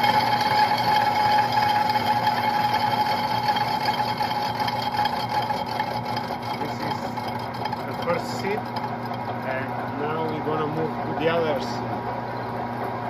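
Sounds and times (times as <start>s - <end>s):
metal lathe gear whine: 0.0s - 13.0s.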